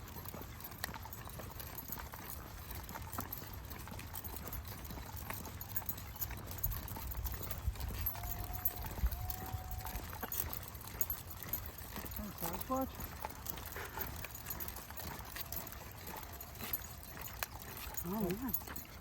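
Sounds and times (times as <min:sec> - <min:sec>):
footsteps of person and dogs: 0:00.0 - 0:19.0.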